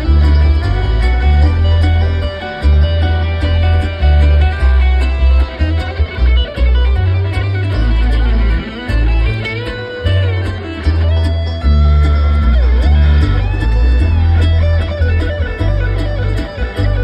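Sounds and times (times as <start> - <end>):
deep bass notes: 0.0 - 17.0
live bluegrass band: 0.0 - 17.0
plucked guitar notes: 0.0 - 17.0.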